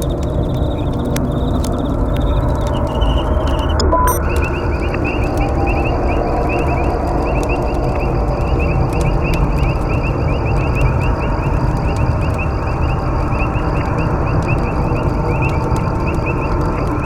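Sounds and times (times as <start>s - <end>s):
campfire crackling and popping: 0.0s - 17.0s
fire rushing: 0.0s - 17.0s
rapid chirping: 0.0s - 17.0s.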